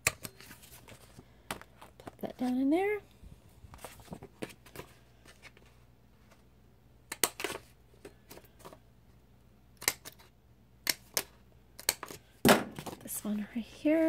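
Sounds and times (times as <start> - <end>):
low room background: 0.0 - 14.0.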